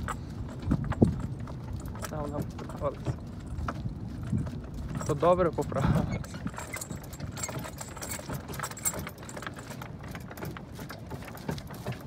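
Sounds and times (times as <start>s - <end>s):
cart rumbling on dirt track: 0.0s - 12.0s
harness chains jingling: 0.0s - 12.0s.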